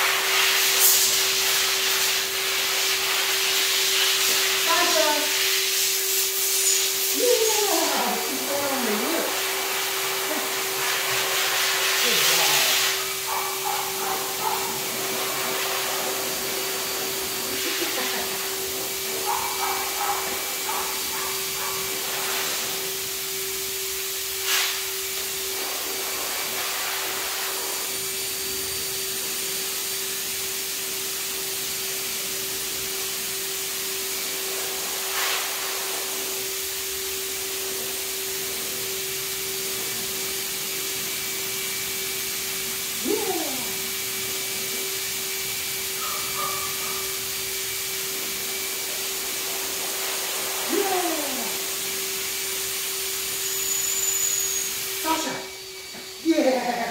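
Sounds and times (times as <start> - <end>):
machine humming with hiss: 0.0 - 56.9.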